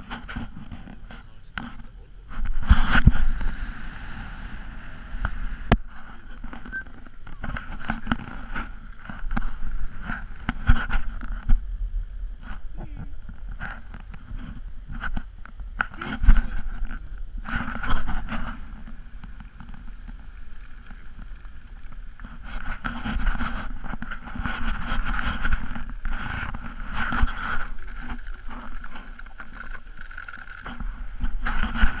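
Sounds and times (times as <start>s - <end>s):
wind rushing over microphone: 0.0s - 29.4s
car engine and tyre rumble: 0.0s - 32.0s.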